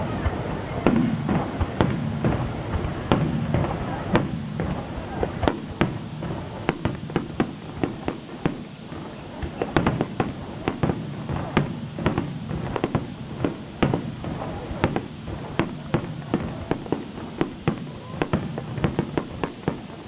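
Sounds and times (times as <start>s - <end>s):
fireworks exploding: 0.0s - 20.0s.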